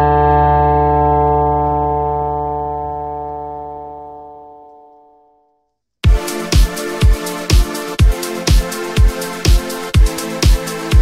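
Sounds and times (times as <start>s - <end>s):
sustained keyboard chord: 0.0s - 11.0s.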